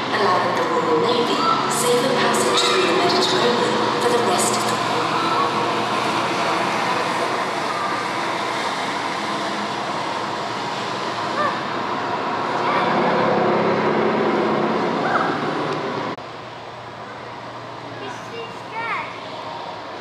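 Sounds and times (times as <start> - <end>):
loud rumbling rush over speakers: 0.0 - 20.0.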